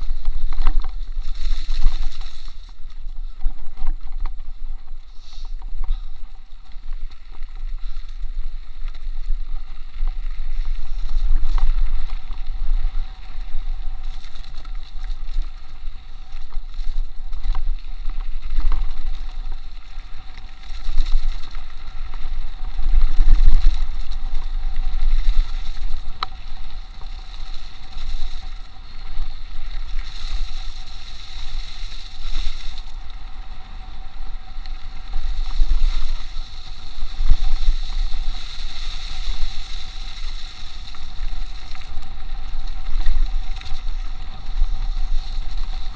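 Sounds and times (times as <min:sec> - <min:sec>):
bike clicks and rattles: 0:00.0 - 0:45.9
tyres on dirt trail: 0:00.0 - 0:45.9.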